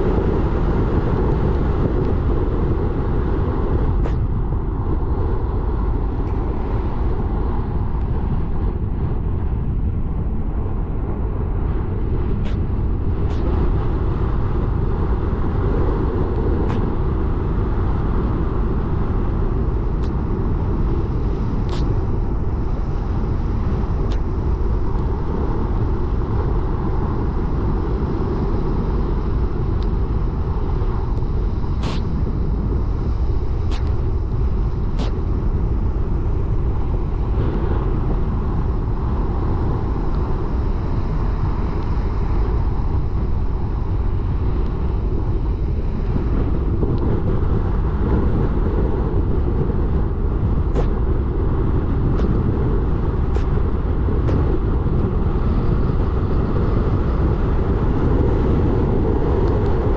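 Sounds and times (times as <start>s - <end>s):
road and engine rumble: 0.0s - 59.9s.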